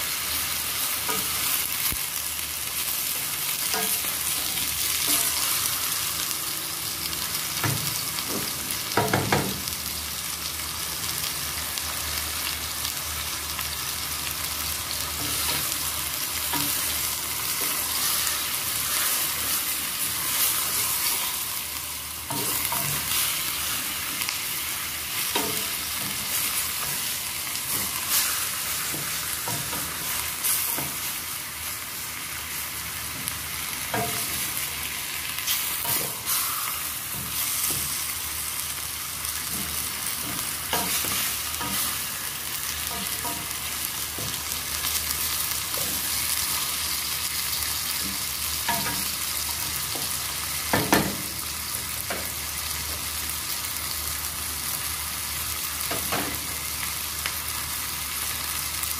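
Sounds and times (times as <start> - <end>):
chicken and onion sizzling in pot: 0.0 - 58.9.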